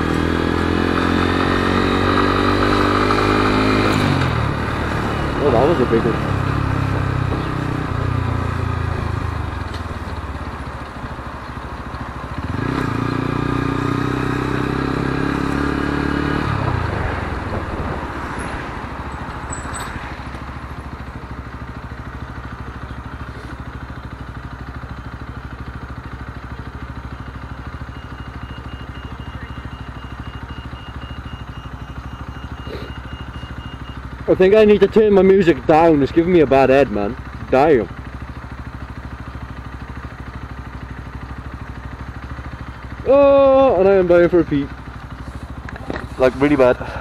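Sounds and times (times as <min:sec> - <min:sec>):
motorcycle engine revving and idling: 0:00.0 - 0:47.0.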